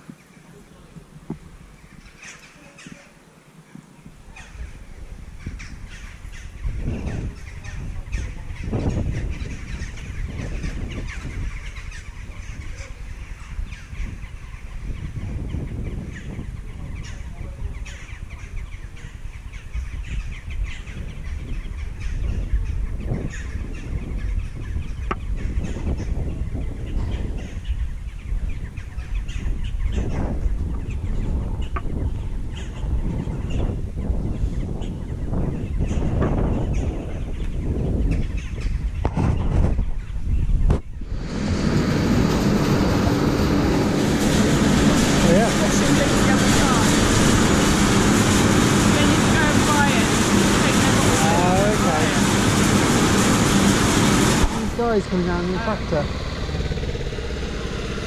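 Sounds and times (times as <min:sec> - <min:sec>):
birds calling: 0:00.0 - 0:58.0
wind buffeting microphone: 0:00.0 - 0:58.0.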